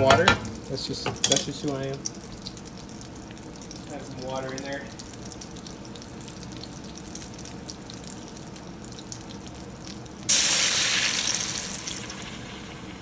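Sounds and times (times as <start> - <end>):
bacon frying: 0.0 - 13.0
water hissing on hot grease: 0.1 - 13.0.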